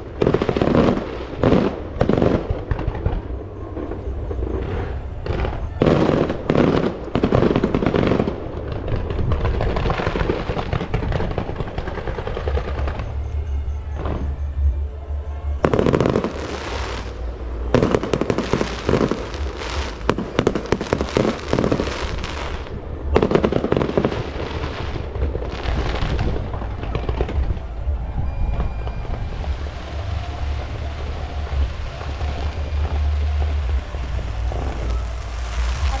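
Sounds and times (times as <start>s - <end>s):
firecrackers crackling: 0.0s - 36.0s
low rumble: 0.0s - 36.0s.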